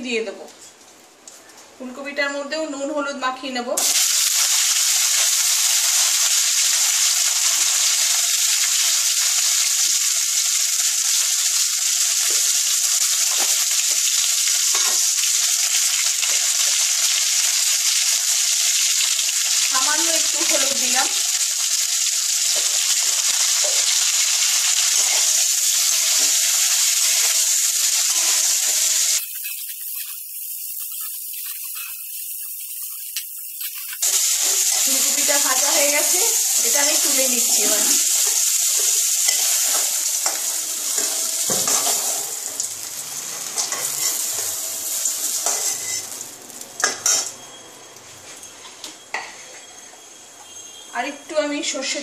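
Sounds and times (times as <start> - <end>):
vegetables sizzling in hot oil: 3.8 - 49.4.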